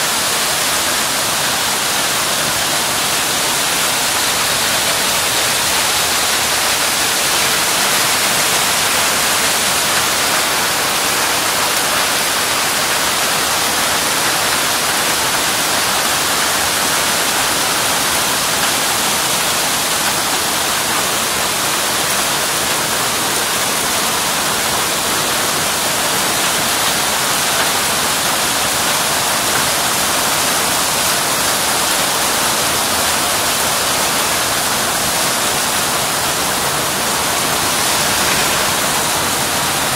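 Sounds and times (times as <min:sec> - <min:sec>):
hail and rain on asphalt: 0:00.1 - 0:39.9.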